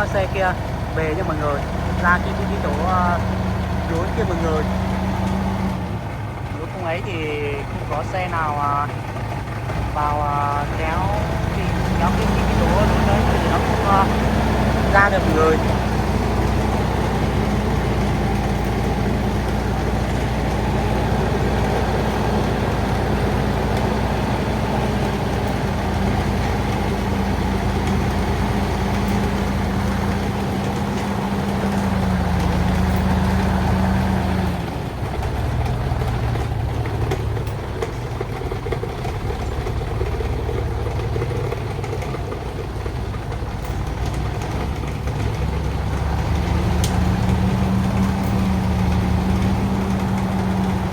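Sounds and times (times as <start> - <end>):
old truck engine running: 0.0 - 50.9.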